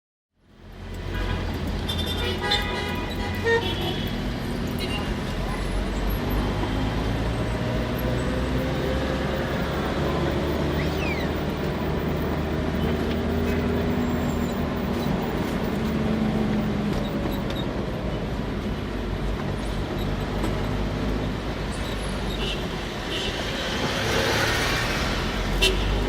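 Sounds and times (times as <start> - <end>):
car and bus engines passing: 0.4 - 26.0.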